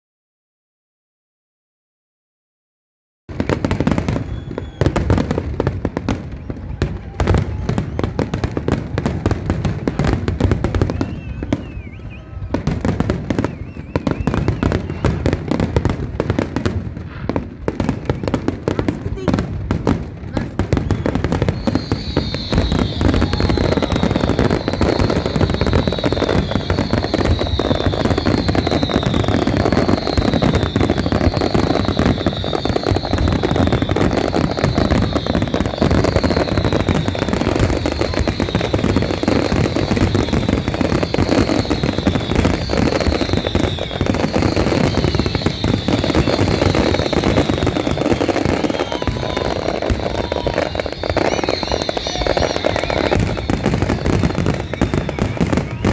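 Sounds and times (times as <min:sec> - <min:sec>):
fireworks crackling and bangs: 0:03.3 - 0:55.9
firework whistle falling in pitch: 0:03.4 - 0:19.5, 0:20.6 - 0:55.9.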